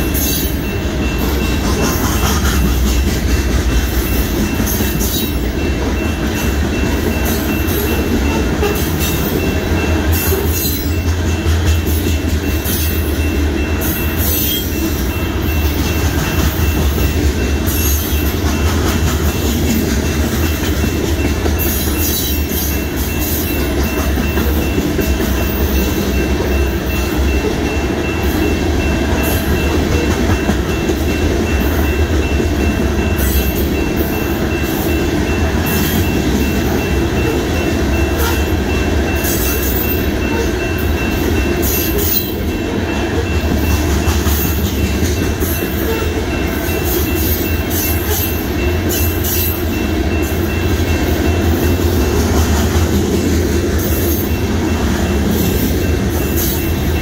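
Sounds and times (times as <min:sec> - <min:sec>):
steel wheels rumbling on rail: 0:00.0 - 0:57.0
wheels clacking on rail joints: 0:00.0 - 0:57.0.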